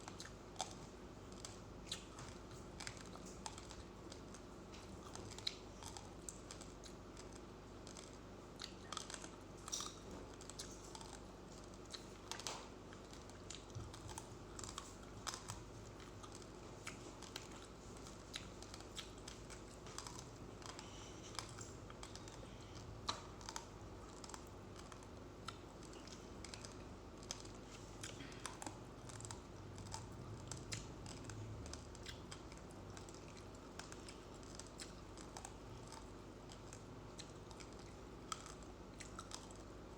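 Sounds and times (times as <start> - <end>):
chewing uncooked rice crunching: 0.0 - 39.9.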